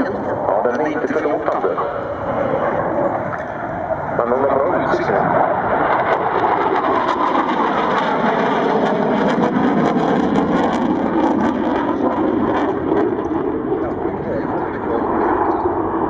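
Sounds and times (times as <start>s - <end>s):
loud jet rumble: 0.0s - 16.0s.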